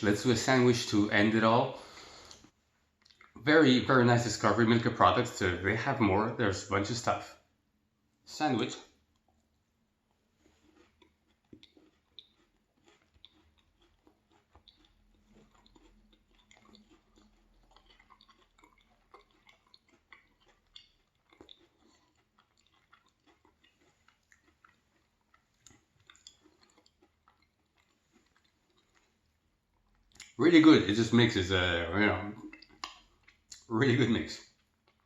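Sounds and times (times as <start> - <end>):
chewing crunchy cookies: 0.0 - 7.4, 8.4 - 35.0.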